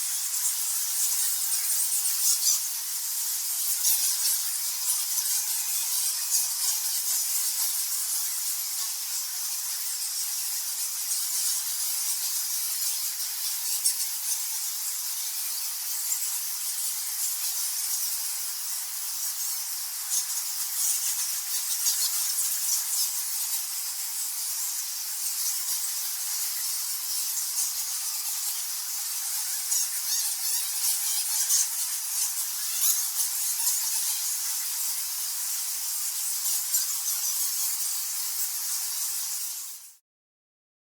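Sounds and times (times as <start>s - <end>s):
bats squeaking and chittering: 0.0s - 39.7s.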